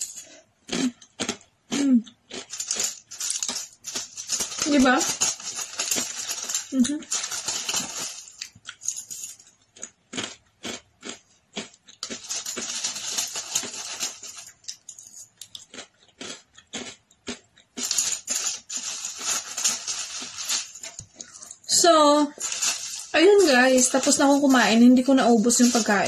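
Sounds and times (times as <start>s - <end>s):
chewing crispy food: 0.2s - 21.8s.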